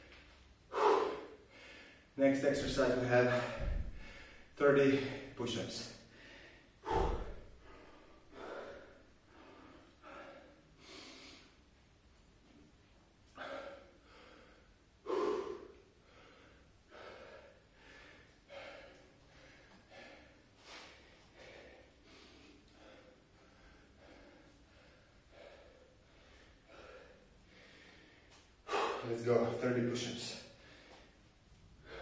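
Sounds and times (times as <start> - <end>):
man breathing hard and gasping: 0.0 - 5.4, 6.0 - 11.7, 13.3 - 29.6, 30.3 - 32.0.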